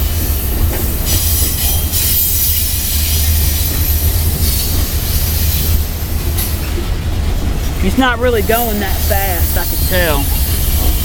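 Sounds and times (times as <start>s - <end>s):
train cars rumbling: 0.0s - 11.0s
wheels on rails: 0.0s - 11.0s.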